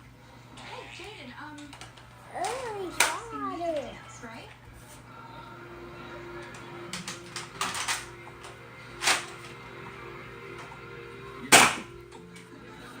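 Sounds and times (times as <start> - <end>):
faint music: 0.0 - 13.0.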